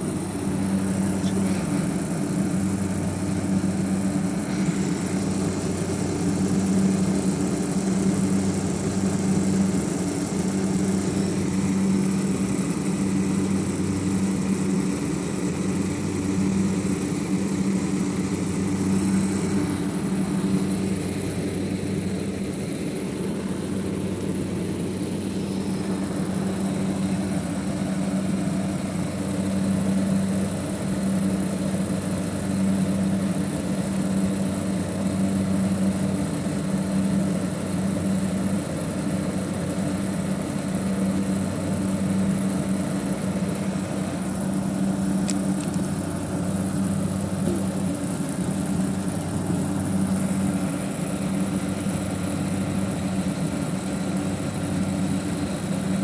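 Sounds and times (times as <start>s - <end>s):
air conditioner unit humming: 0.0s - 56.0s.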